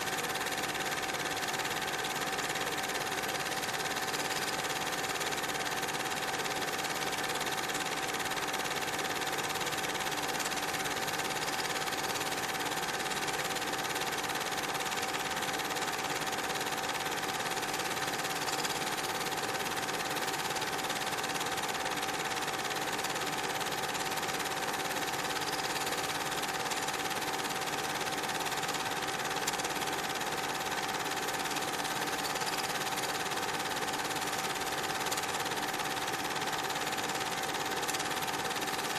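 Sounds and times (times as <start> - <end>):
film projector whirring and clattering: 0.0 - 38.9.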